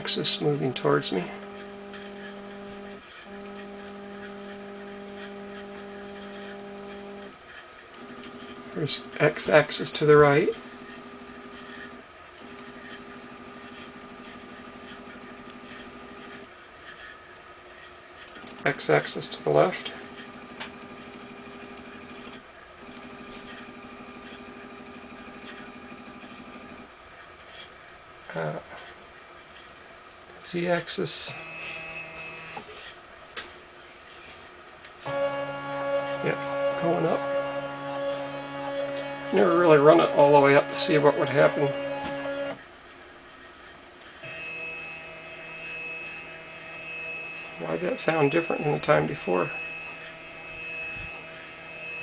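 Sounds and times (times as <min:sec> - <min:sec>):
stepper motor whine: 0:00.0 - 0:17.1, 0:18.2 - 0:27.0, 0:31.1 - 0:33.0, 0:35.0 - 0:42.7, 0:44.0 - 0:52.0.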